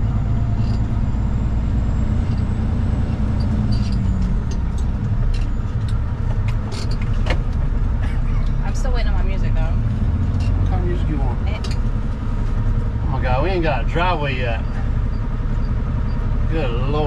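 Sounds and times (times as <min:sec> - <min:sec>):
truck diesel engine rumble: 0:00.0 - 0:17.0.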